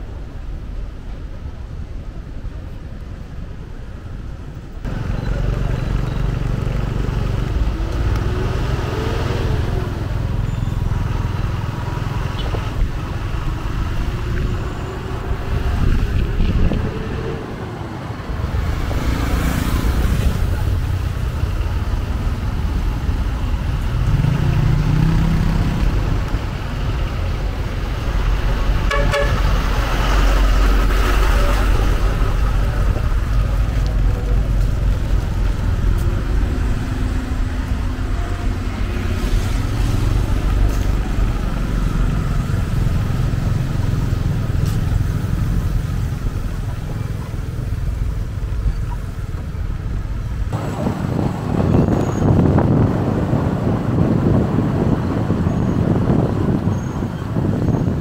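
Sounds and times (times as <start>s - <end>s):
passing vehicle engines: 4.0s - 58.0s.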